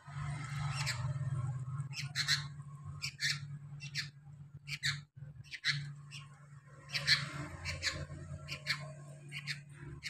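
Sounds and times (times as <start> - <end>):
bird chirping: 0.4 - 10.0.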